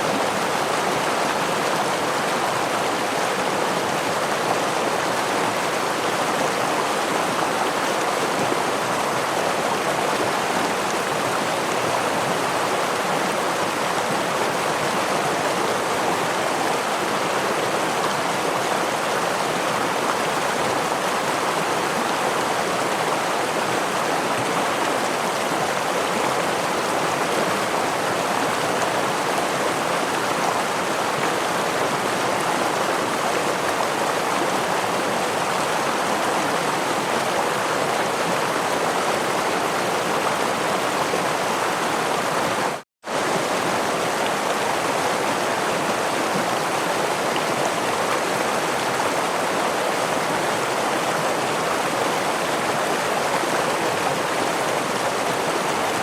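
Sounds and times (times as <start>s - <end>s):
stream water running over rocks: 0.0s - 56.0s.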